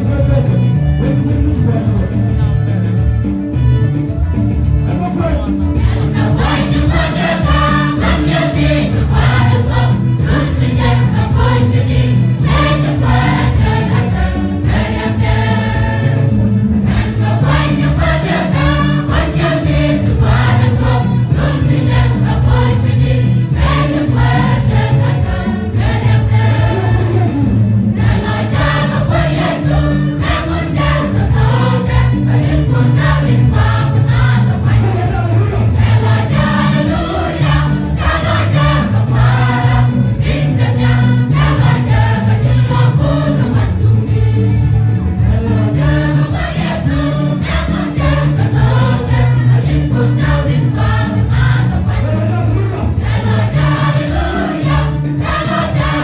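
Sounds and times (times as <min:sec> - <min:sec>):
choir singing gospel: 0:00.0 - 0:56.0
keyboard accompaniment: 0:00.0 - 0:56.0.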